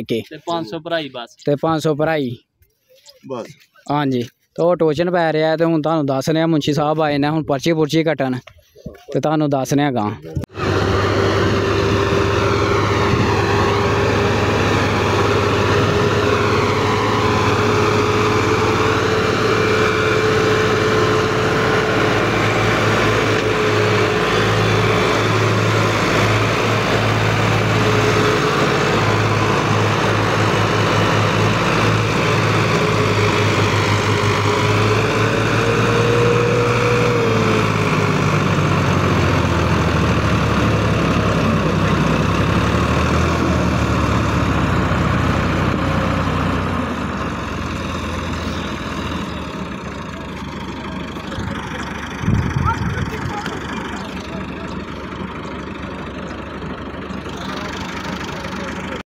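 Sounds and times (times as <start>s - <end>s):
tractor engine droning: 10.2s - 59.0s.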